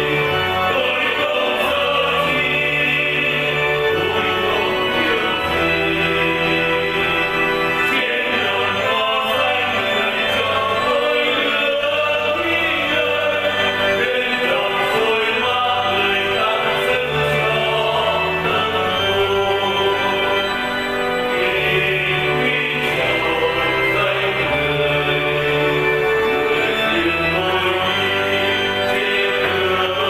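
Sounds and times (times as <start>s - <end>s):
choir singing a hymn: 0.0s - 30.0s
instrumental accompaniment: 0.0s - 30.0s.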